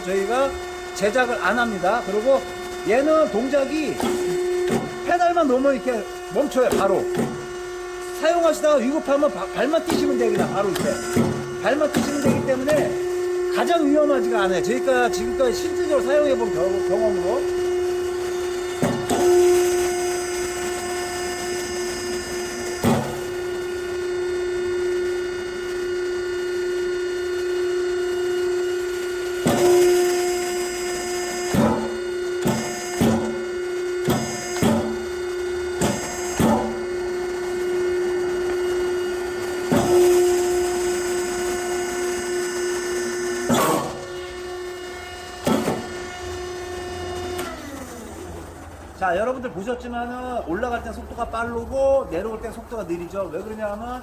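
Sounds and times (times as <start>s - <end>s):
solenoid valves clicking: 0.0s - 47.8s
log splitter motor hum-whine: 0.0s - 54.0s.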